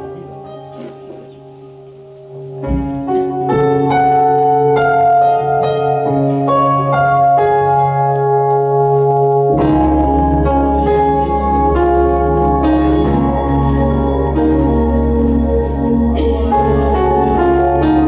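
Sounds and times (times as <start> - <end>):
piano-voiced keyboard playing hymn: 0.0 - 18.0
deep bass notes: 2.6 - 18.0.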